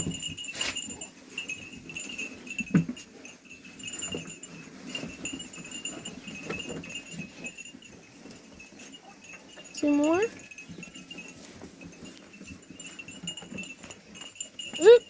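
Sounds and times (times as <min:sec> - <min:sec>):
sheep bells jingling: 0:00.0 - 0:15.0.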